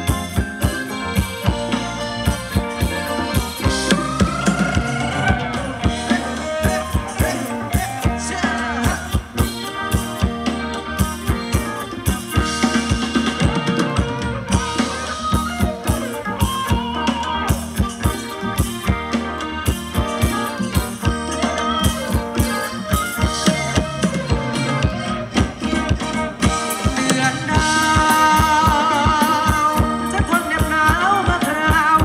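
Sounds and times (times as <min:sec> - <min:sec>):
dance band playing: 0:00.0 - 0:32.0
drum kit steady beat: 0:00.0 - 0:32.0.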